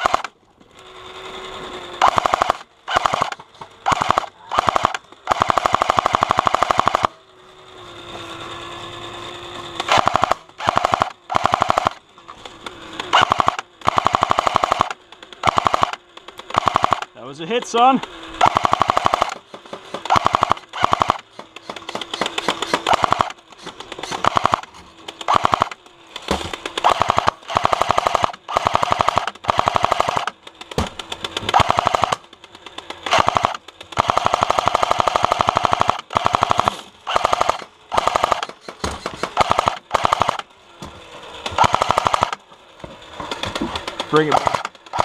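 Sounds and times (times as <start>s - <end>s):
airsoft gun firing bursts: 0.0s - 0.4s, 2.0s - 7.2s, 9.8s - 12.0s, 13.0s - 40.5s, 41.5s - 42.4s, 43.5s - 45.0s
gearbox whine: 0.0s - 45.0s.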